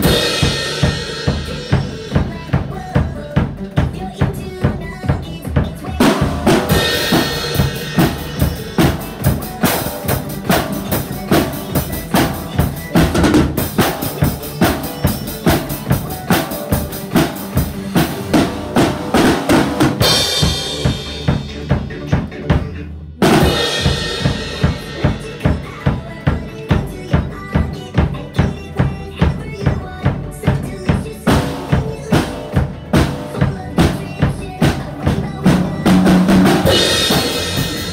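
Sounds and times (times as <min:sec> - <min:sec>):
drum kit rock beat: 0:00.0 - 0:37.9.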